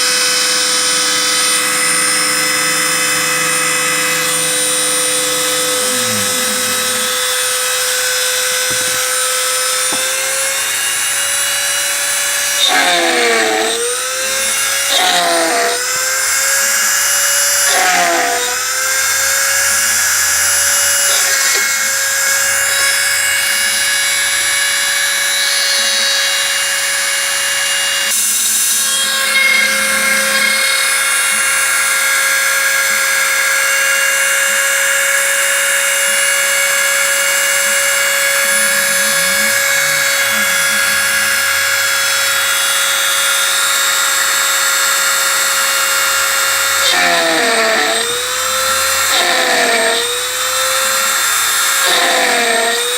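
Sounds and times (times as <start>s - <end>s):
cutter machining aluminium: 0.0s - 52.9s
router spindle whining: 0.0s - 52.9s.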